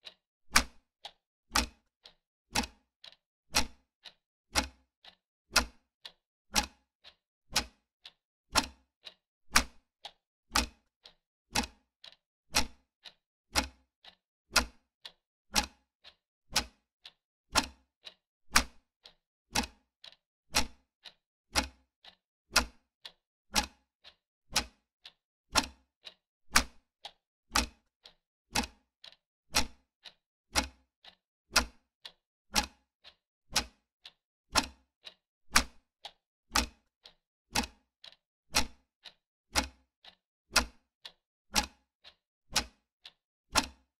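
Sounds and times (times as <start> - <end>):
clock ticking: 0.0 - 43.9.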